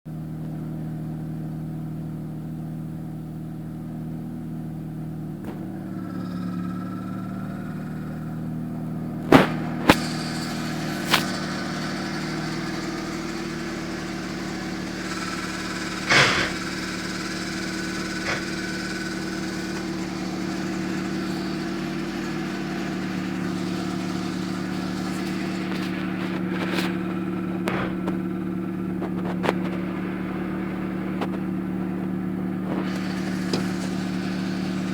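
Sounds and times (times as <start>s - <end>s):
car engine idling: 0.1s - 34.9s
faint grinding whine: 5.2s - 34.9s
gear clunks: 5.4s - 34.9s.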